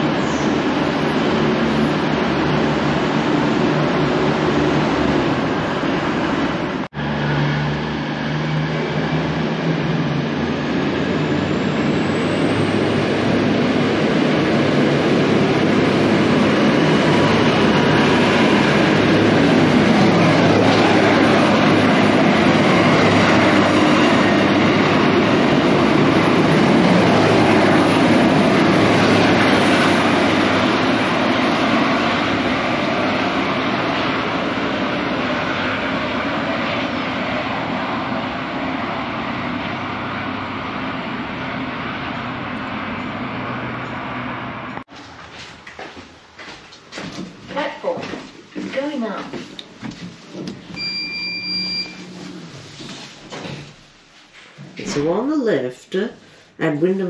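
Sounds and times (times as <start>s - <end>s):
train rumbling on rails: 0.0s - 50.9s, 51.5s - 54.8s.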